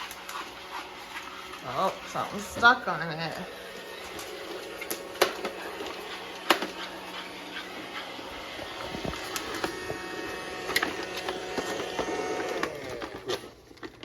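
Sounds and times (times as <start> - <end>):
robot vacuum running: 0.0 - 13.6.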